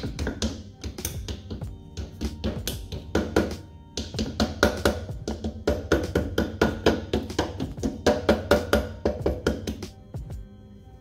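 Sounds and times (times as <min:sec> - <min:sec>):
music with percussive beat: 0:00.0 - 0:10.5.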